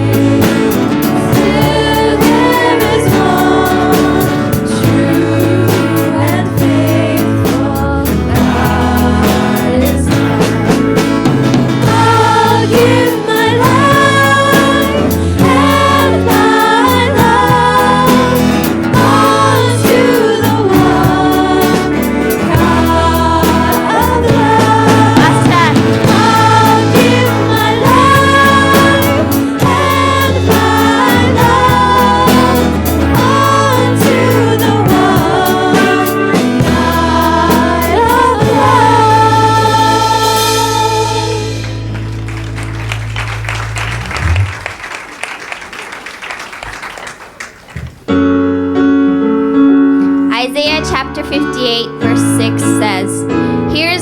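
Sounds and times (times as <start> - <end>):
gospel choir singing with band: 0.0 - 45.5.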